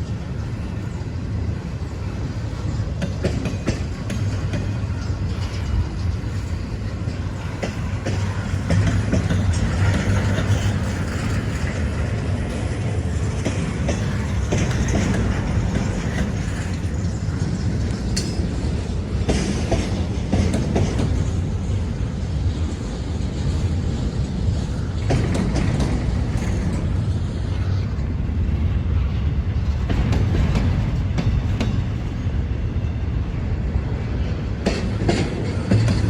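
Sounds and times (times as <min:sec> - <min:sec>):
wheels clicking over rail joints: 0:00.0 - 0:28.2, 0:29.2 - 0:36.0
freight train cars rolling: 0:00.0 - 0:36.0.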